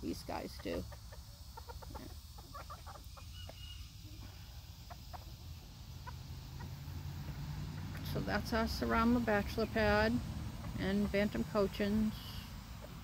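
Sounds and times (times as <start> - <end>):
cockerels clucking: 0.0 - 13.0.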